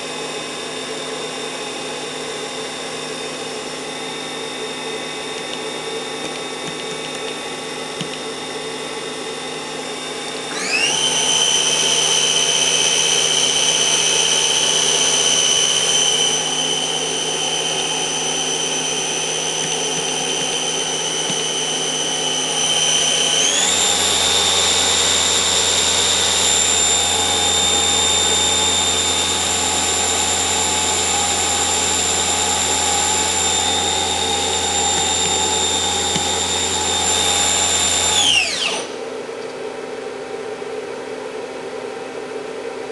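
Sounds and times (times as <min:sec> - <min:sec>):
milling machine spindle whine: 0:00.0 - 0:39.0.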